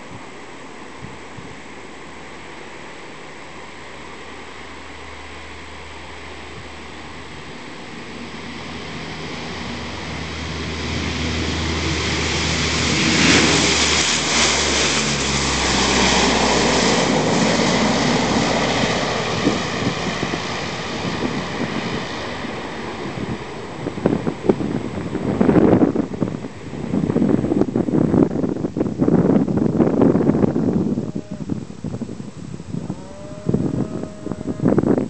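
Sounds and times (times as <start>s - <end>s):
turboprop aircraft taking off: 3.6s - 35.0s.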